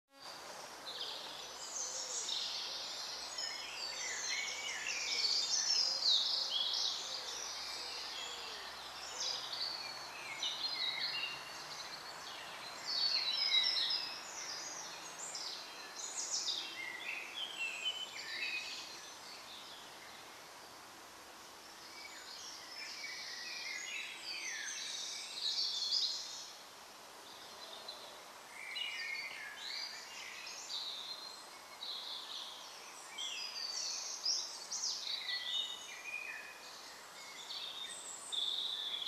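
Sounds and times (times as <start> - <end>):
songbirds singing: 0.8 - 39.0.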